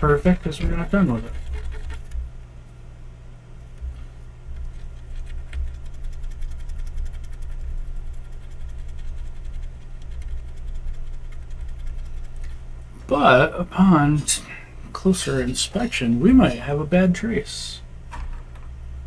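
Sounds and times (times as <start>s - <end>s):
electronics equipment humming: 0.0s - 19.0s
faint unsteady rumble: 0.0s - 19.0s.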